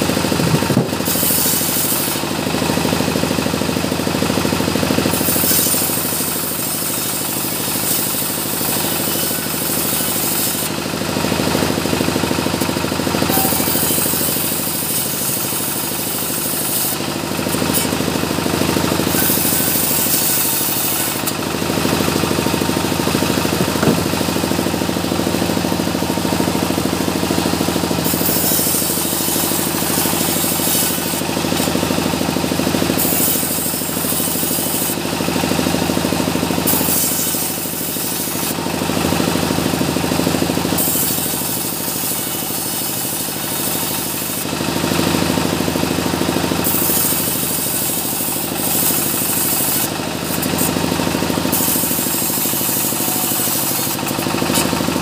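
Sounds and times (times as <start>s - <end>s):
saw cutting wood: 0.0s - 55.0s.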